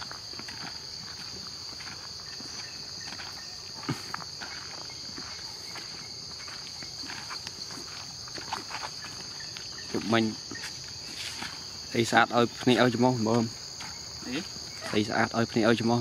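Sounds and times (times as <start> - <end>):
footsteps on a dirt path: 0.0 - 16.0
high-pitched insect chorus: 0.0 - 16.0.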